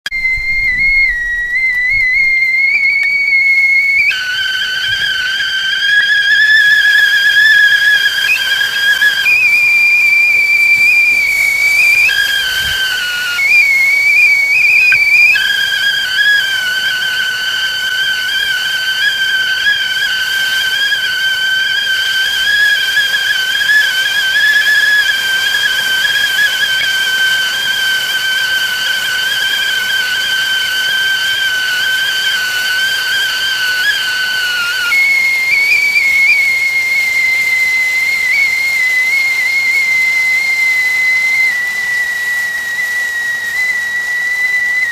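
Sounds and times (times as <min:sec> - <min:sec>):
kettle whistling: 0:00.0 - 0:44.9
steam hissing: 0:00.1 - 0:44.9.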